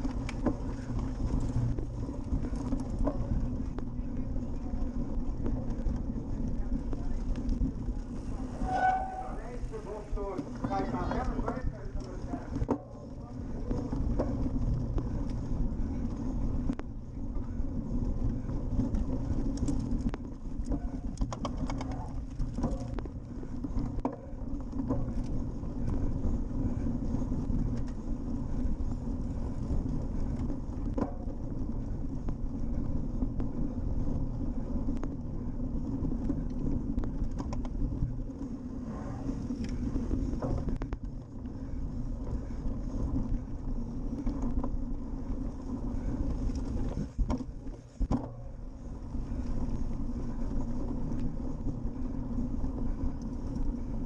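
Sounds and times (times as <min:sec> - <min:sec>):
bike rattles and clicks: 0:00.0 - 0:54.0
bike tyres on rough grass: 0:00.0 - 0:54.0.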